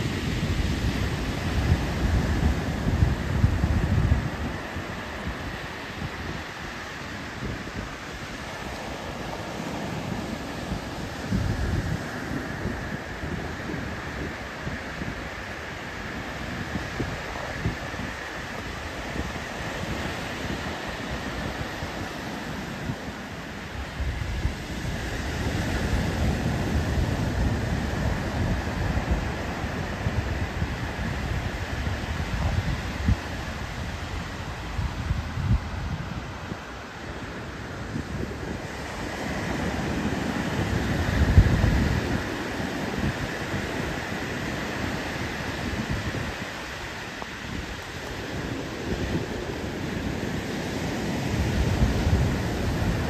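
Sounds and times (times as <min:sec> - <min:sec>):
surf breaking on beach: 0:00.0 - 0:53.0
wind buffeting microphone: 0:00.0 - 0:53.0.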